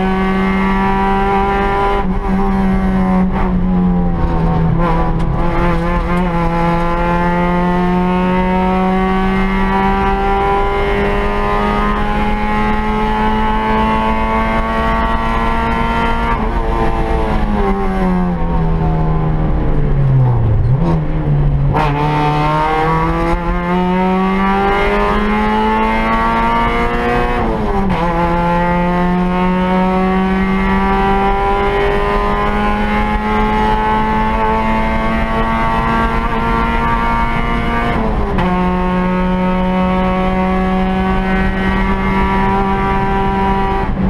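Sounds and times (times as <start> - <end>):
rally car engine revving: 0.0 - 44.0.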